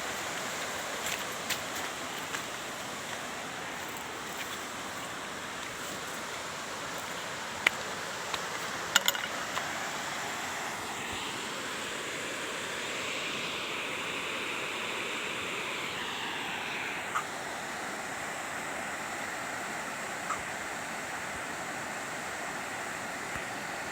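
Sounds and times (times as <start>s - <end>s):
waterfall roaring: 0.0s - 23.9s.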